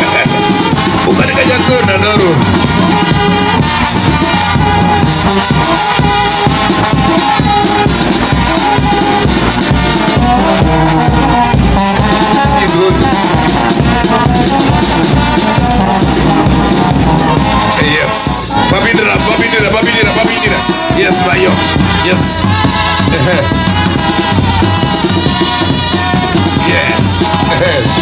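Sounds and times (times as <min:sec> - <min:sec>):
upbeat band music with brass: 0:00.0 - 0:28.0.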